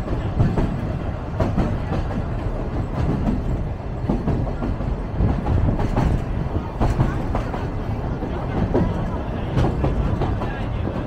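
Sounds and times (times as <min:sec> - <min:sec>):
train low rumble: 0:00.0 - 0:11.0
wheels clacking over rails: 0:00.0 - 0:11.0.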